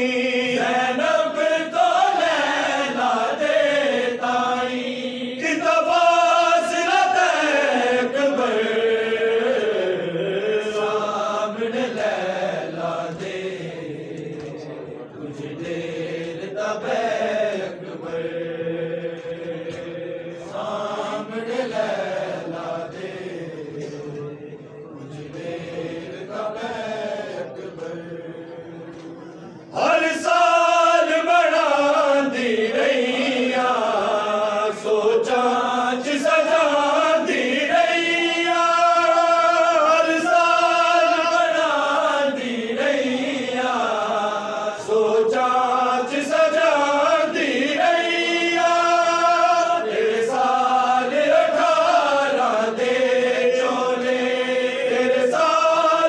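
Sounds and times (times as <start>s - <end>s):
men's voices chanting: 0.0s - 56.0s.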